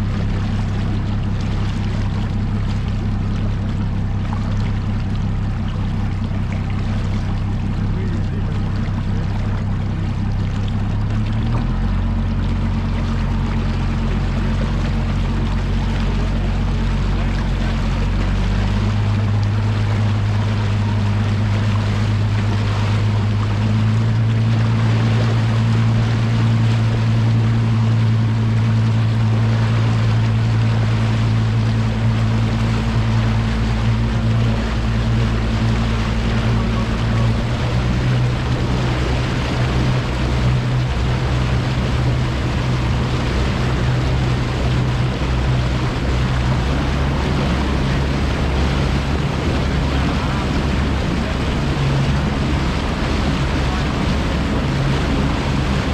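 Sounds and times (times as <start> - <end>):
outboard motor running: 0.0 - 55.9
water noise: 0.0 - 55.9.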